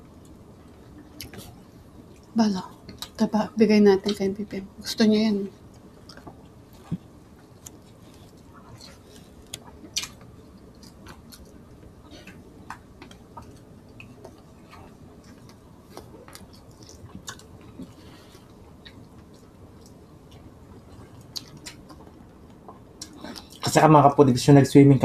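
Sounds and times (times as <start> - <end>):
people chewing: 0.1 - 3.2, 5.6 - 23.7.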